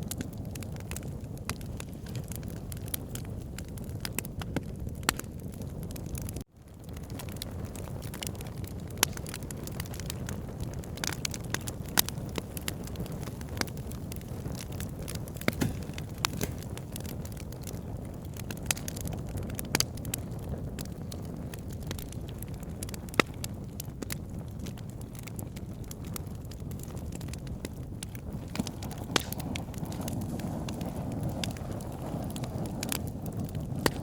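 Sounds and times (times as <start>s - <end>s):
campfire flames rushing: 0.0s - 34.0s
fire crackling and popping: 0.0s - 34.0s.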